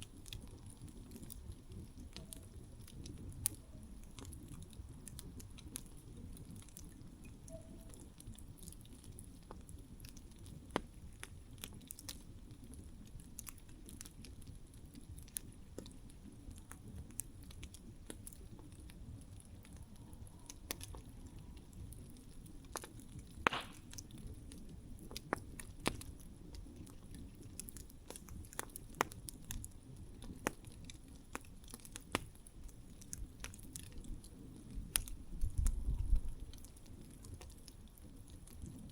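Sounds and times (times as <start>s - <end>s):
campfire flames rumbling: 0.0s - 38.9s
fire crackling and popping: 0.0s - 38.9s.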